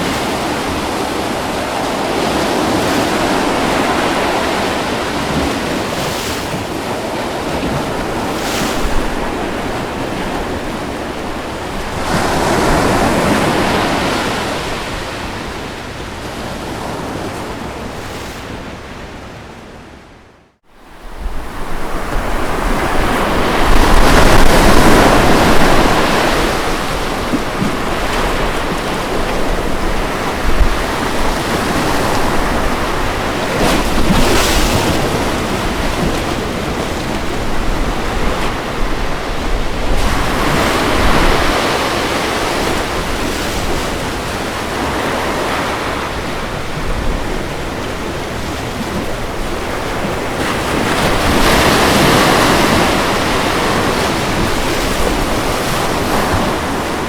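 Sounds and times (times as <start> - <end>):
ocean waves breaking on beach: 0.0 - 57.0
wind rumbling on microphone: 0.0 - 57.0.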